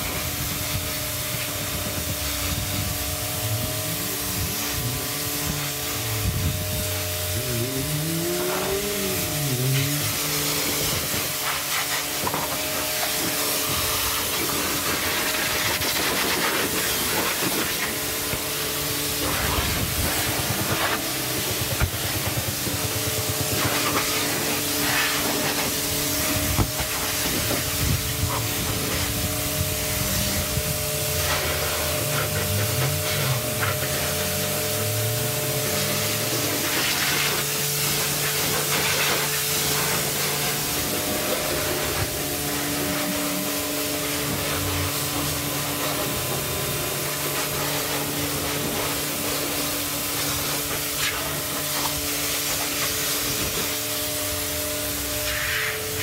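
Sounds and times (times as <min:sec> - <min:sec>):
pressure washer spraying water: 0:00.0 - 0:56.0.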